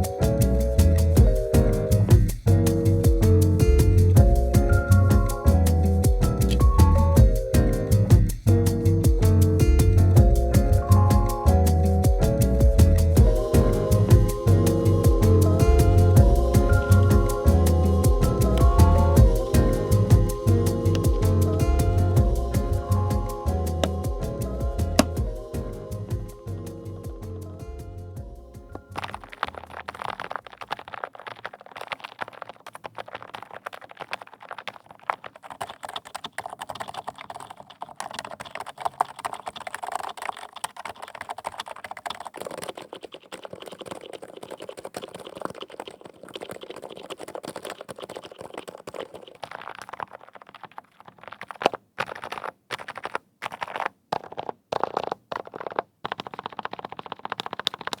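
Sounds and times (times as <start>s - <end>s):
keyboard typing: 0.0s - 58.0s.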